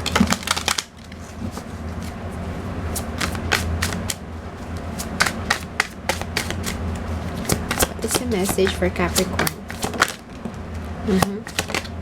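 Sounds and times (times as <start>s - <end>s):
cards being shuffled: 0.0s - 10.6s, 11.2s - 12.0s
steady low hum: 0.0s - 12.0s.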